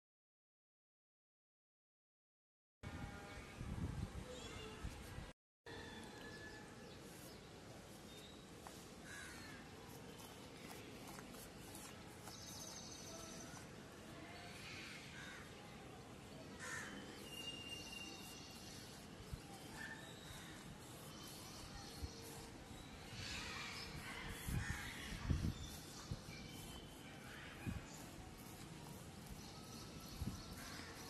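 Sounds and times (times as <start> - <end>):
faint outdoor background: 2.8 - 31.0.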